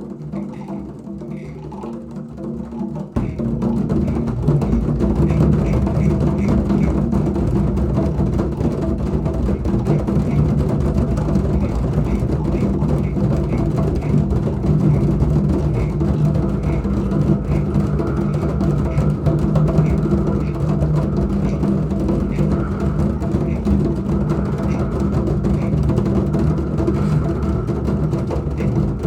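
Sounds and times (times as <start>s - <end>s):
drums rubbed tapped and rolled: 0.0s - 29.0s.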